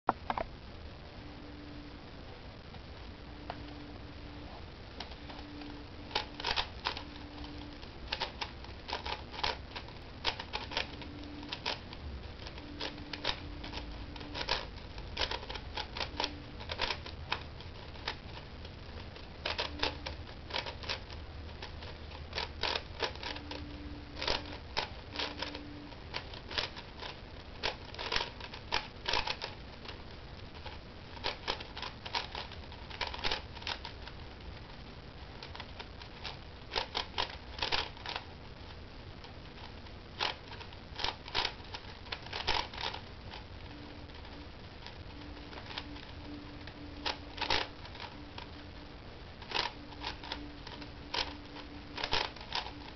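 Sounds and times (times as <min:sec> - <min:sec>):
puzzle cube layers clacking: 0:03.4 - 0:34.6, 0:35.3 - 0:52.9.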